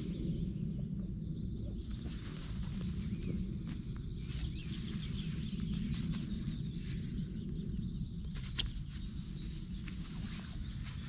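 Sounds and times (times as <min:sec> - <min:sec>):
small birds chirping and trilling: 0:00.0 - 0:11.0
steady low rumble: 0:00.0 - 0:11.0.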